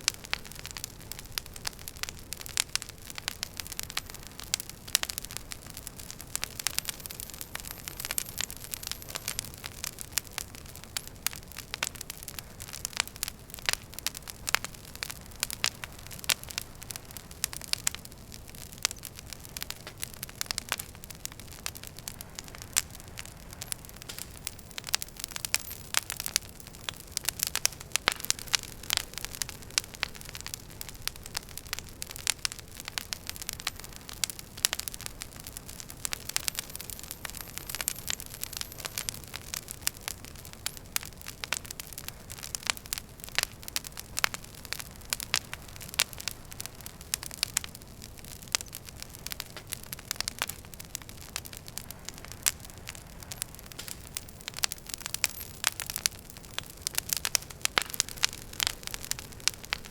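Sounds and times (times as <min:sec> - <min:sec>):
low rumble of flames: 0:00.0 - 0:59.9
wood fire snaps: 0:00.0 - 0:59.9.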